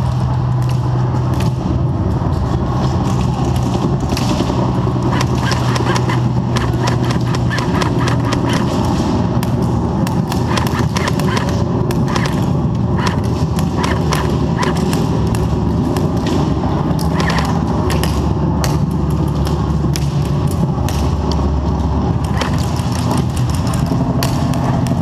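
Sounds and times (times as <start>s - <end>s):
steady low hum: 0.0s - 25.0s
airsoft guns firing: 2.9s - 21.4s, 22.0s - 25.0s.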